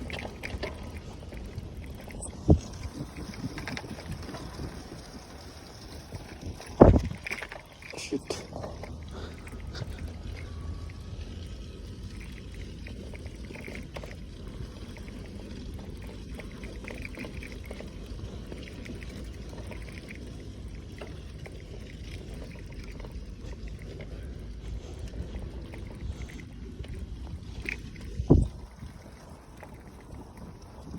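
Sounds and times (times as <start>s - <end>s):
bicycle rolling on rough track: 0.0s - 30.9s
light clicks and rattles: 0.0s - 30.9s.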